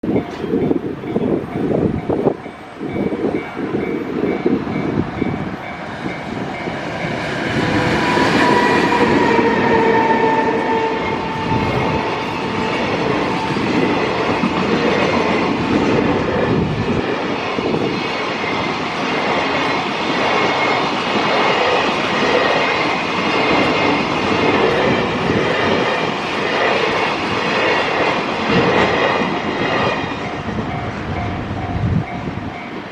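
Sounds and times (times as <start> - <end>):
electric locomotive whine: 0.0 - 32.9
freight wagons rumbling on rails: 0.0 - 32.9.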